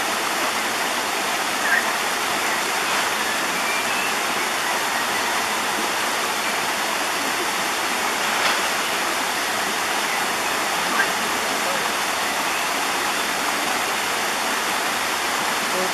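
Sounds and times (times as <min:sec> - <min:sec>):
stream water flowing over rocks: 0:00.0 - 0:15.9.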